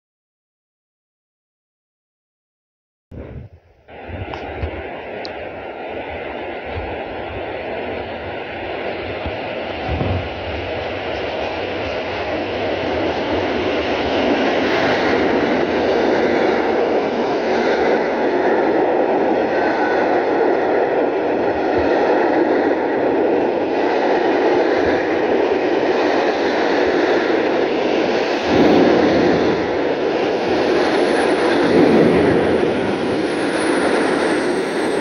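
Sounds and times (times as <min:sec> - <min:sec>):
train wheels rushing on rails: 0:03.9 - 0:35.0.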